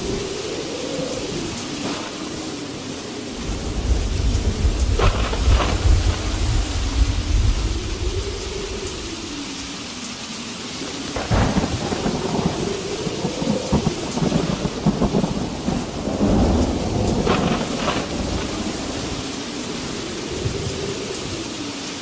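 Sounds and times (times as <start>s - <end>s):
steady rain hiss: 0.0s - 22.0s
wind: 0.0s - 22.0s
low crackling rumbles: 1.1s - 10.1s, 10.8s - 21.5s.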